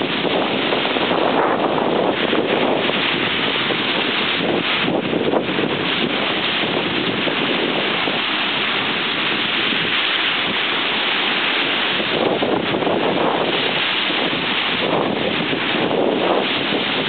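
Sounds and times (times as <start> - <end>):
waves washing up gravel beach: 0.0 - 17.0
wind buffeting microphone: 0.0 - 17.0.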